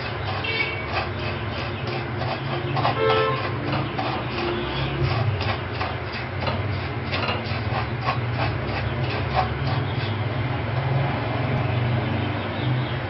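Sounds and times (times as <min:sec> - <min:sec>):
wooden spatula scraping wok: 0:00.0 - 0:11.1
steady low hum: 0:00.0 - 0:11.7.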